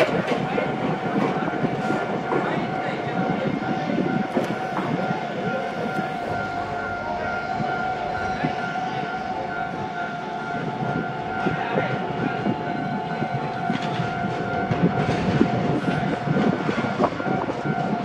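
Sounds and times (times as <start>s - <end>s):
level-crossing warning bell: 0.0s - 18.0s
tram wheels knocking on rails: 0.0s - 18.0s.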